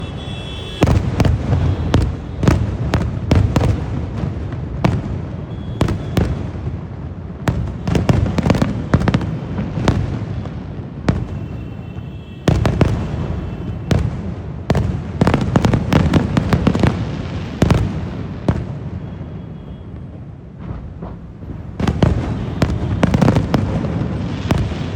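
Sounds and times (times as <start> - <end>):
fireworks bangs and crackles: 0.0 - 24.9.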